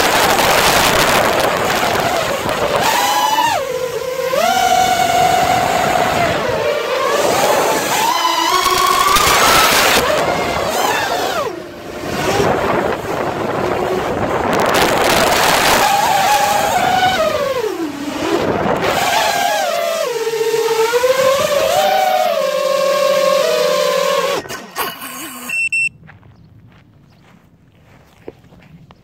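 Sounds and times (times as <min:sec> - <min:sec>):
rush of prop wash: 0:00.0 - 0:25.4
drone motors whining: 0:00.0 - 0:25.9.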